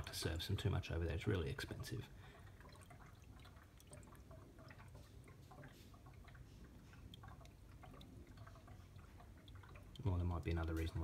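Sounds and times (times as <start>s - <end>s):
liquid trickling from bottle: 0.0s - 11.0s.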